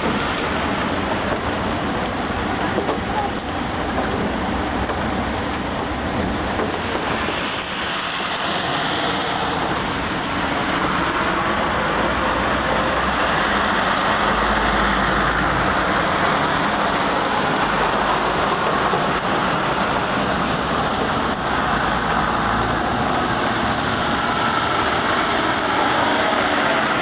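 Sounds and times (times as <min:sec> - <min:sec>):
road vehicle engine and tyres: 0:00.0 - 0:27.0.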